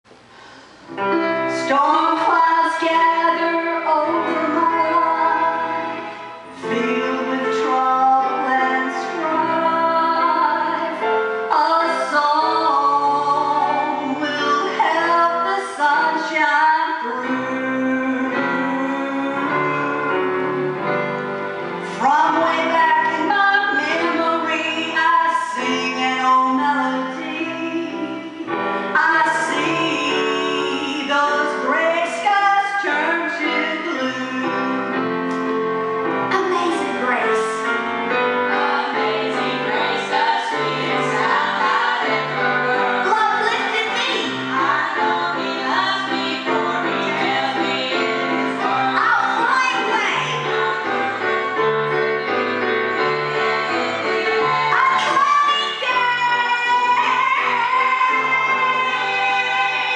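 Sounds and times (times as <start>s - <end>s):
instrumental accompaniment: 2.9s - 59.9s.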